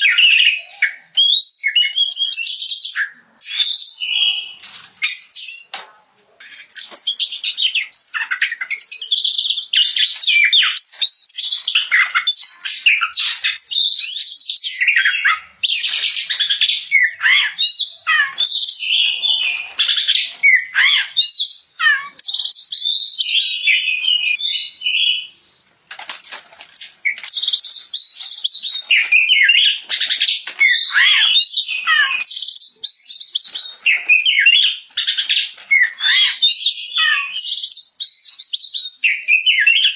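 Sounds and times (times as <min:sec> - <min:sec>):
bird singing with varied whistles: 0:00.0 - 0:05.7, 0:06.7 - 0:25.6, 0:26.8 - 0:39.9.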